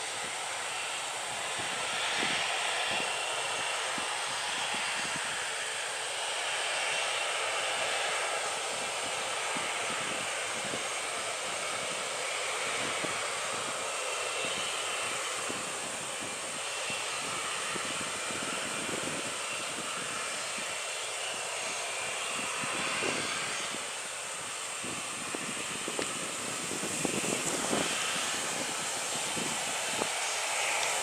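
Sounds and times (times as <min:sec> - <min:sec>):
jet engine drone in cabin: 0:00.0 - 0:31.0.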